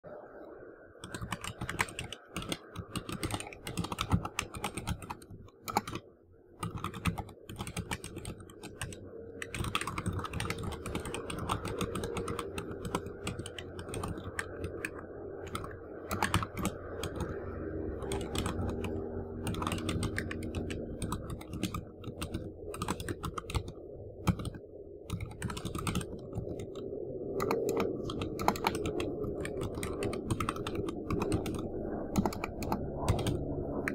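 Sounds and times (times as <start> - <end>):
typing on computer keyboard: 1.0 - 33.9.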